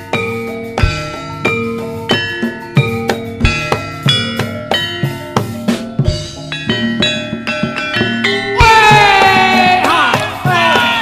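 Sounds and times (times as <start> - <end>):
hand-drum strokes: 0.0 - 11.0
ringing struck-metal tones: 0.0 - 11.0.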